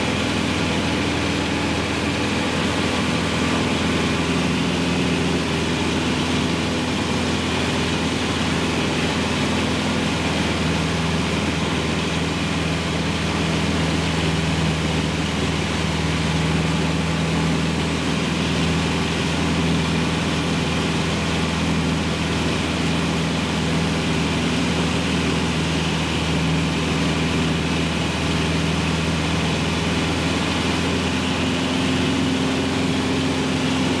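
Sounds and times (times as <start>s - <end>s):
airplane engine droning: 0.0s - 34.0s.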